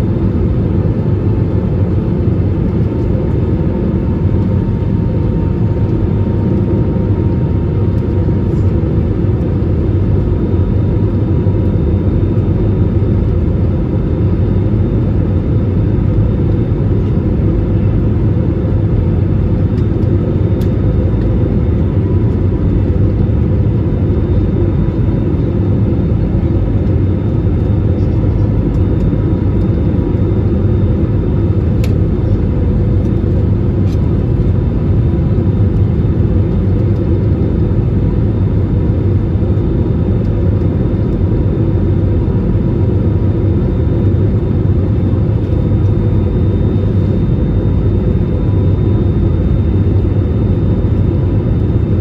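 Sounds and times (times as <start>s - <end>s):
jet cabin low rumble: 0.0s - 52.0s.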